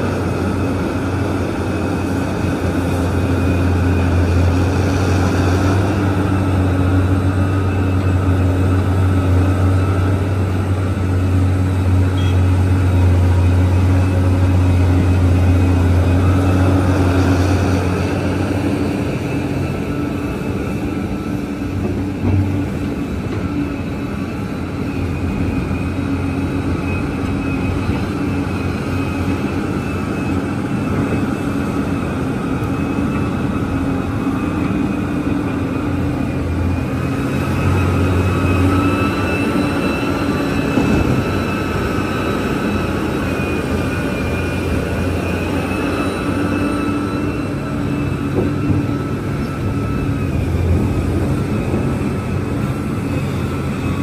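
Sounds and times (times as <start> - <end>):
excavator engine drone: 0.0 - 54.0
high whine: 0.0 - 54.0.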